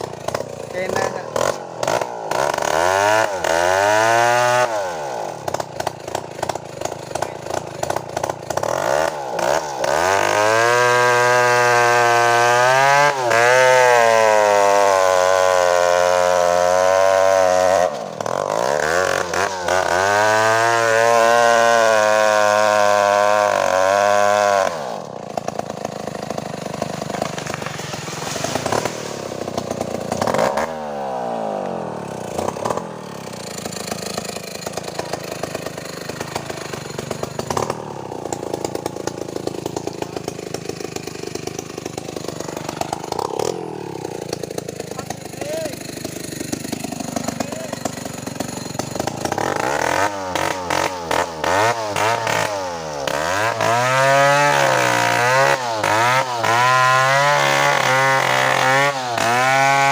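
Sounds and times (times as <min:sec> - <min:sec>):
two-stroke chainsaw revving: 0:00.0 - 0:59.9.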